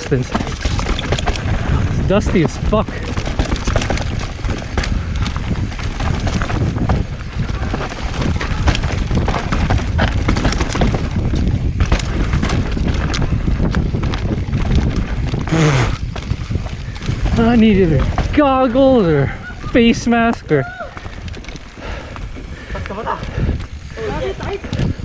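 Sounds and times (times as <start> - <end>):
bike rattling over bumps: 0.0 - 25.0
bike tyres on gravel: 0.0 - 25.0
wind rumbling on microphone: 0.0 - 25.0.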